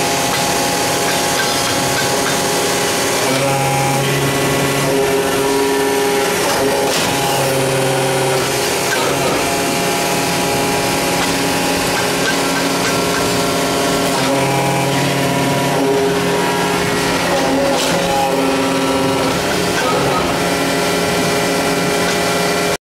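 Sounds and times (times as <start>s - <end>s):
press machine droning: 0.0s - 22.8s.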